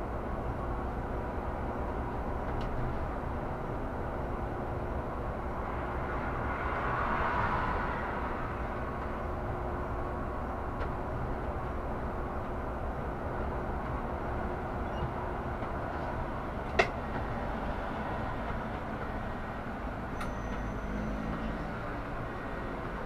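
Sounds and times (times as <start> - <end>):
bus engine rumble: 0.0 - 23.0
road noise: 0.0 - 23.0.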